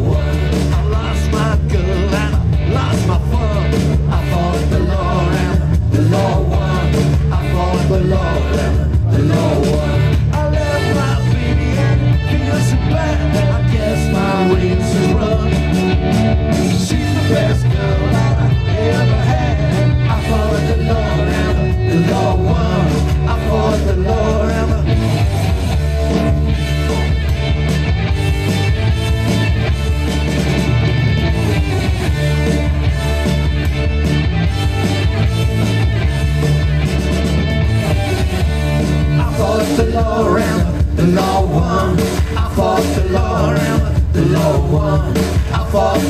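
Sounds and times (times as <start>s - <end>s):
live band playing rock and roll: 0.0s - 46.0s.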